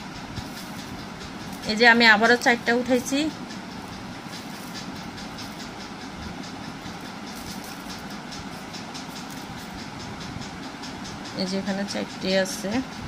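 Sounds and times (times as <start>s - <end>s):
dry broom sticks rustling: 0.0s - 10.7s
steady background hum: 0.0s - 13.0s.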